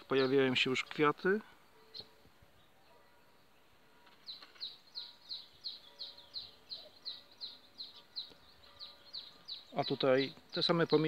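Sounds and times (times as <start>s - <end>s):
small bird chirping: 1.8s - 11.0s.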